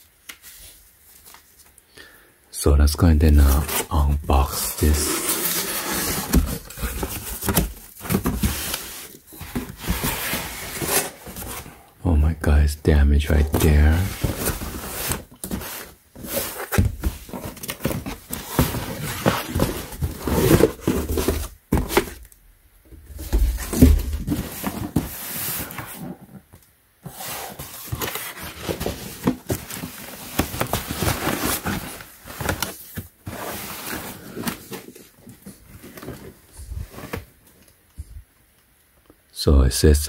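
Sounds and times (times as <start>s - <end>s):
cardboard rustling and scraping: 3.2s - 11.9s, 12.9s - 22.3s, 22.9s - 38.2s.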